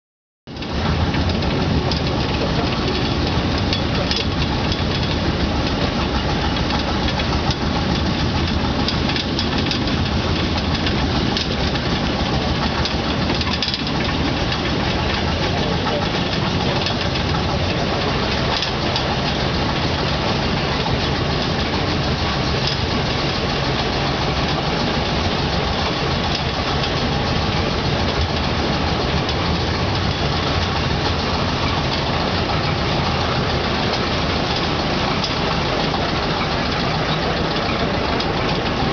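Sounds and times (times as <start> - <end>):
locomotive engine running: 0.5 - 38.9.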